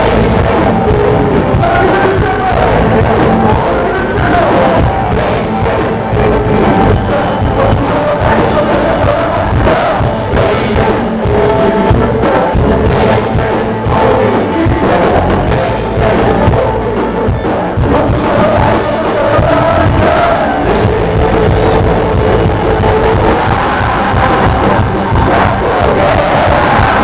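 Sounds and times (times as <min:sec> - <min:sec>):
drum kit beat: 0:00.0 - 0:27.0
gospel band music: 0:00.0 - 0:27.0
voices singing: 0:00.0 - 0:27.0.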